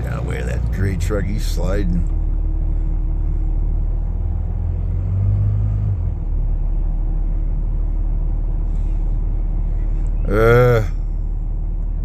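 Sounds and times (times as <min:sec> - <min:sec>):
vehicle engine rumble from cab: 0:00.0 - 0:12.0.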